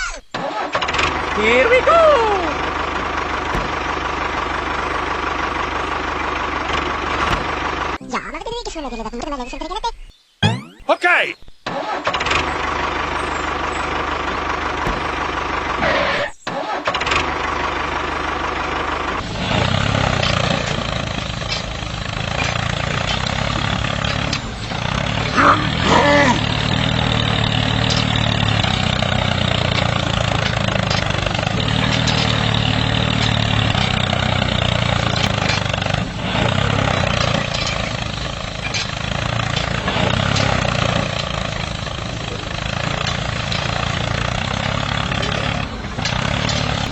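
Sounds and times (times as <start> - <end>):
engine running: 0.0 - 8.2, 12.0 - 46.9.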